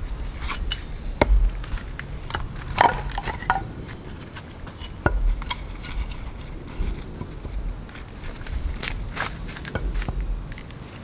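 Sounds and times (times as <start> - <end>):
wooden knocks and clacks: 1.2 - 10.7.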